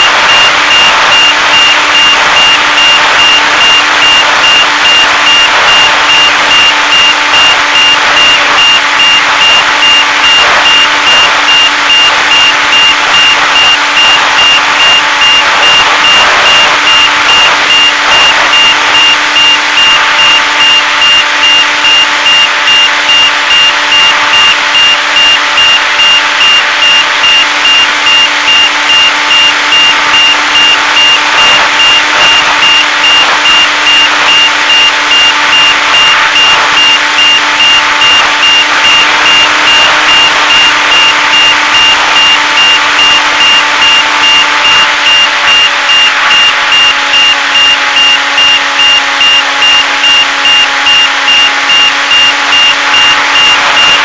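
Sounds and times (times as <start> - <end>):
electric motor and propeller: 0.0 - 54.0.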